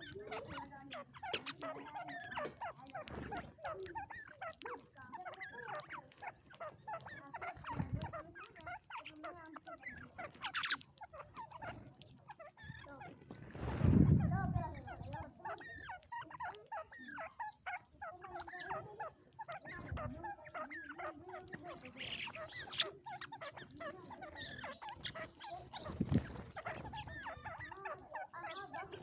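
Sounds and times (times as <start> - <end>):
birds chattering: 0.0 - 29.0.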